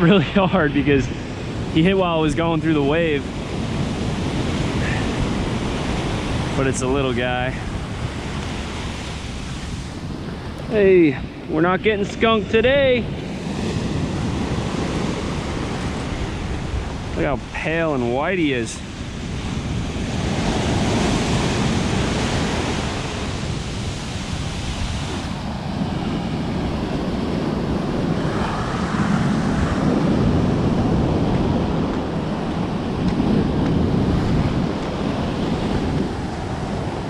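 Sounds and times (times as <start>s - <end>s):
ocean surf washing onto beach: 0.0s - 37.0s
wind buffeting microphone: 0.0s - 37.0s.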